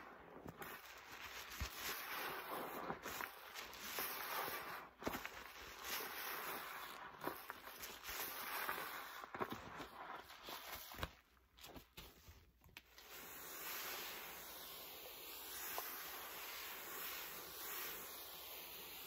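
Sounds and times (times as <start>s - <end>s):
foam hissing: 0.0s - 11.1s, 12.8s - 19.0s
sponge squelching in soapy water: 0.0s - 19.0s.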